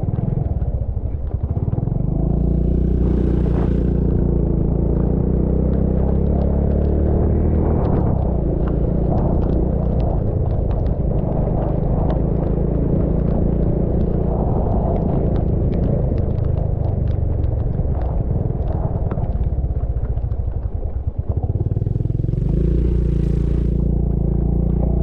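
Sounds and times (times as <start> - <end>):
motorcycle engine running: 0.0 - 25.0
road noise: 0.0 - 25.0.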